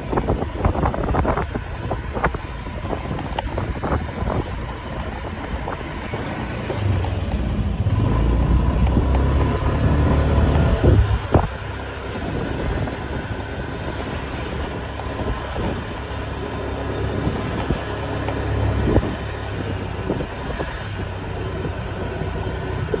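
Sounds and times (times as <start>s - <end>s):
vehicle engine running: 0.0s - 23.0s
wind buffeting microphone: 0.0s - 23.0s.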